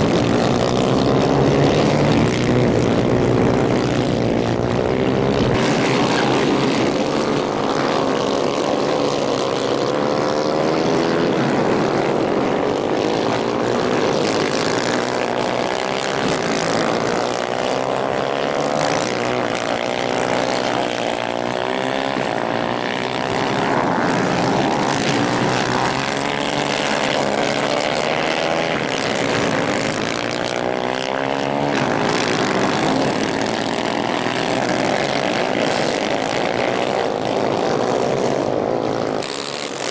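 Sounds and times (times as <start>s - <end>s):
racing kart engines buzzing: 0.0s - 39.9s.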